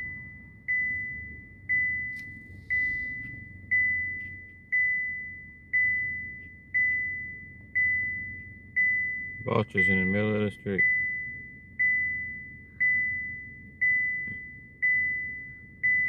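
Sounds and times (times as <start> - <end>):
car warning chime dinging: 0.0 - 16.0
faint low rumble: 0.0 - 16.0.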